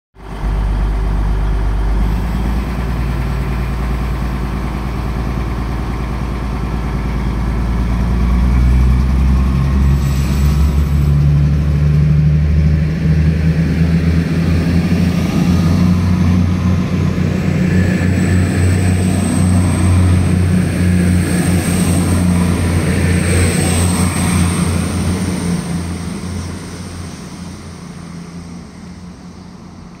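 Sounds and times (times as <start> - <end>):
diesel train engines revving: 0.2 - 30.0.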